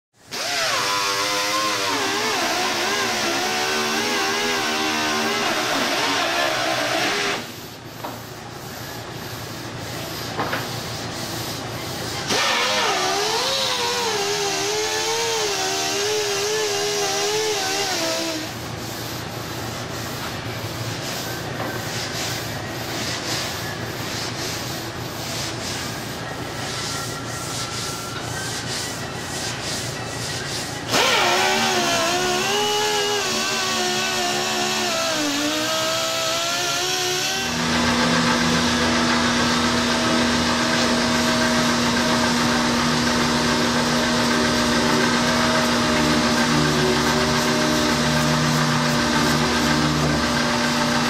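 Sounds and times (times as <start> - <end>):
hand sanding strokes: 0.7 - 51.0.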